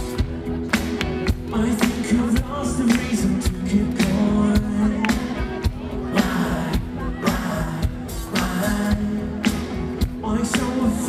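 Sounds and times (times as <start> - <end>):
pop-rock band playing live: 0.0 - 11.0
steady drum beat: 0.0 - 11.0.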